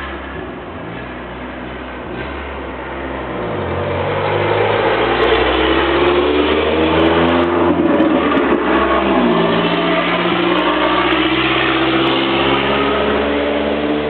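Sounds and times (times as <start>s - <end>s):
car engine while driving: 0.0s - 14.0s.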